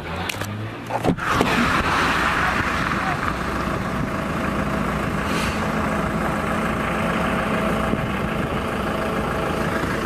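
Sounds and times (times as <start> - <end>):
car engine humming: 0.0 - 10.0
road and traffic noise: 0.0 - 10.0.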